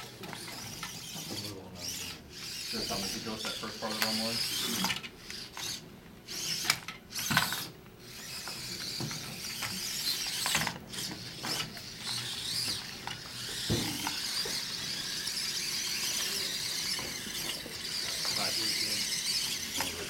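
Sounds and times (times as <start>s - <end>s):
servo gear whine: 0.0s - 20.0s.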